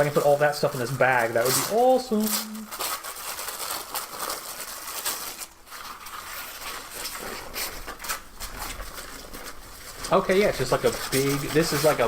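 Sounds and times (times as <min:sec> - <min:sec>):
bag rustling and crinkling: 0:00.0 - 0:12.0.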